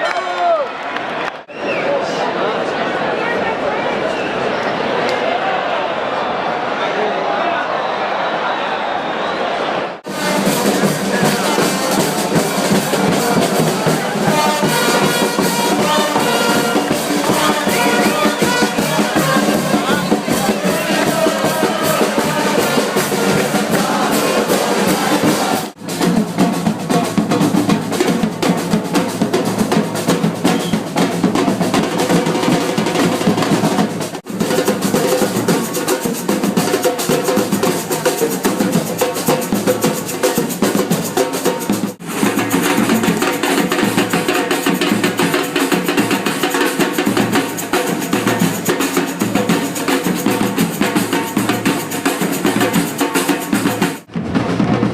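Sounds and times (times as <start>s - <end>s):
snare drum rolls: 10.0s - 54.9s
drum-led music: 10.1s - 54.9s.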